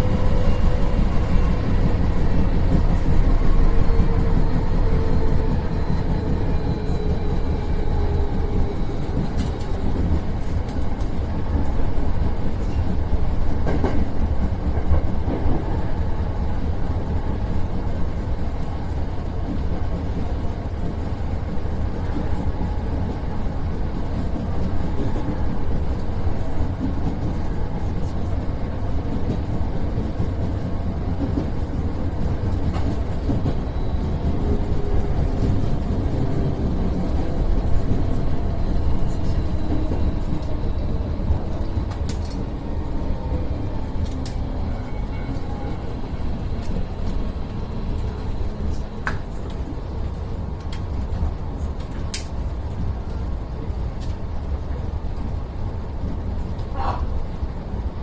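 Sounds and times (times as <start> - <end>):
wheels rumbling on rails: 0.0 - 58.0.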